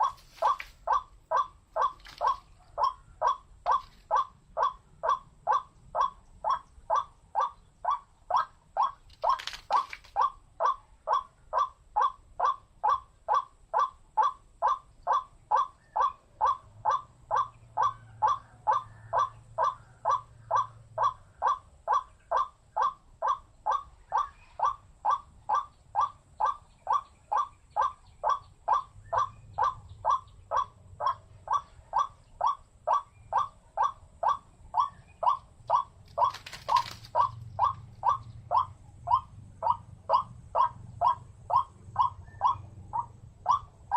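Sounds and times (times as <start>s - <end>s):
waterhen calling harsh notes: 0.0s - 43.8s.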